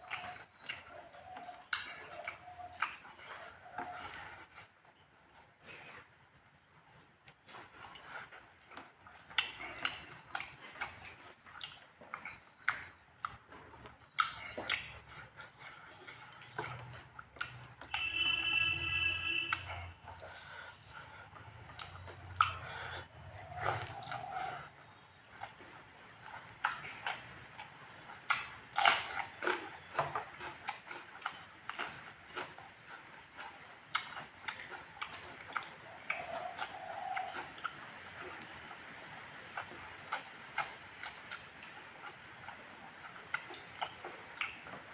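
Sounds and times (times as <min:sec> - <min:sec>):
person chewing with wet smacks: 0:00.0 - 0:44.9.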